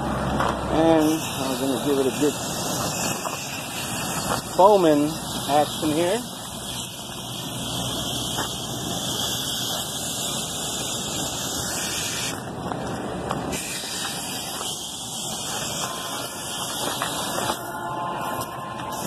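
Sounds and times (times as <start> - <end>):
hiss of foam spray: 0.8 - 12.4, 13.5 - 17.7.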